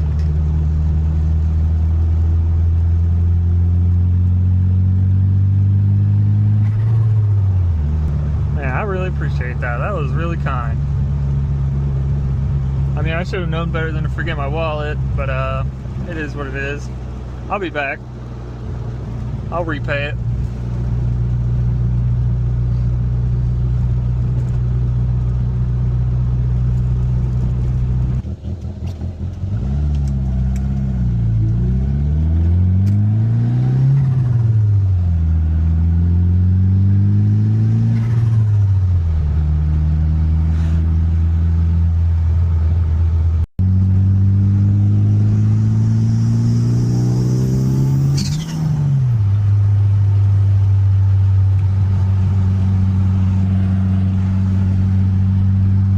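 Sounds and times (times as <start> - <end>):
car engine accelerating through gears: 0.0 - 55.9.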